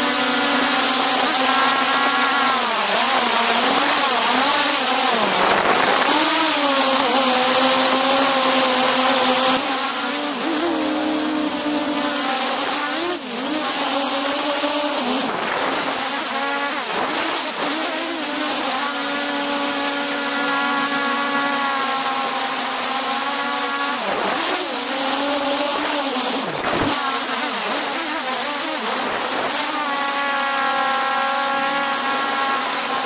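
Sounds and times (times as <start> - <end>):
drone propellers whining: 0.0 - 28.2.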